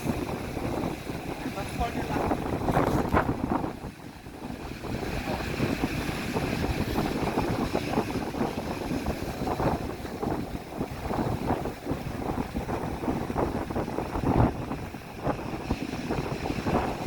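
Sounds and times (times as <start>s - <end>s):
sea surf breaking: 0.0s - 17.0s
wind buffeting microphone: 0.0s - 17.0s.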